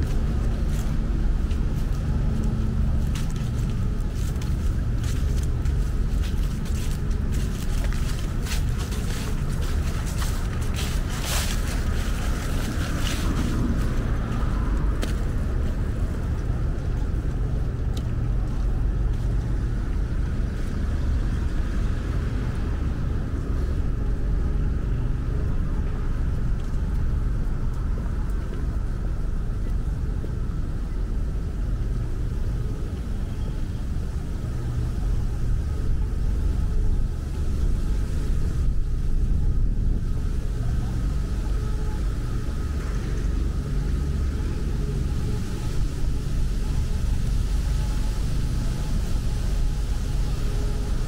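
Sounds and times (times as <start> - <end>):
low outdoor rumble: 0.0 - 51.0.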